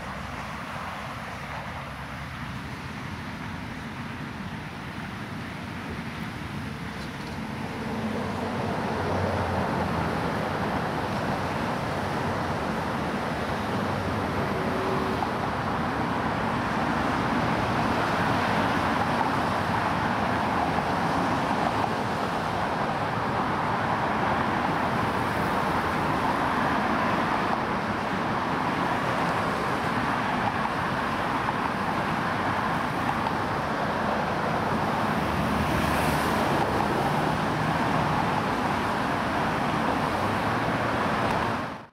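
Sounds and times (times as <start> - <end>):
cars driving past: 6.7 - 41.9.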